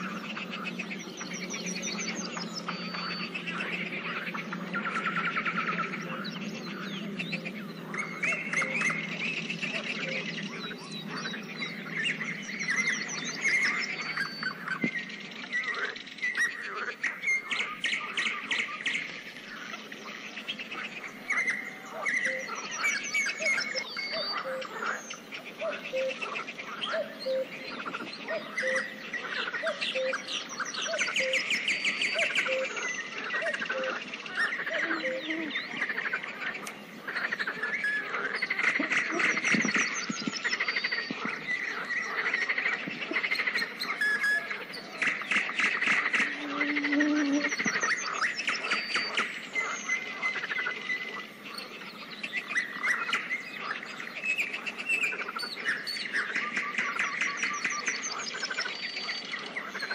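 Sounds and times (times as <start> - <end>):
birds singing and calling: 0.0 - 59.9.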